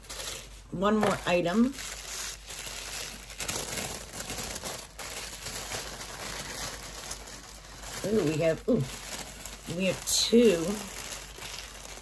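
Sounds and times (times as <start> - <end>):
paper wrapping crinkling: 0.0 - 12.0.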